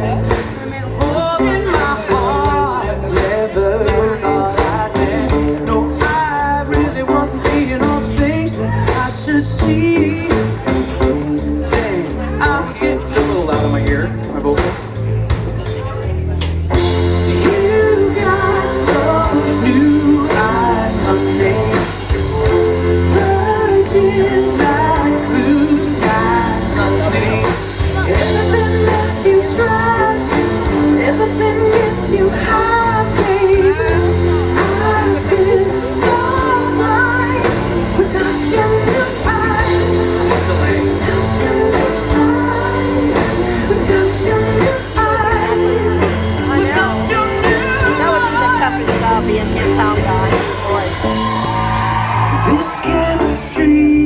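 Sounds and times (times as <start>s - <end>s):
person singing: 0.0s - 15.0s, 17.0s - 54.0s
steady drum beat: 0.0s - 53.9s
bass guitar: 0.0s - 54.0s
electric guitar: 0.0s - 54.0s.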